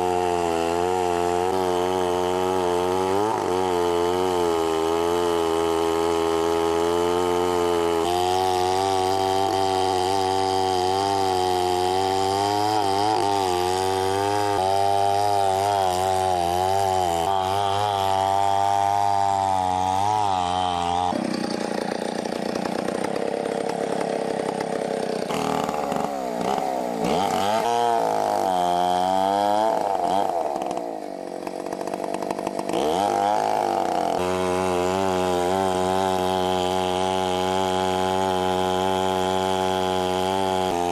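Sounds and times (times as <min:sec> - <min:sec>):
chainsaw engine at high revs: 0:00.0 - 0:40.9.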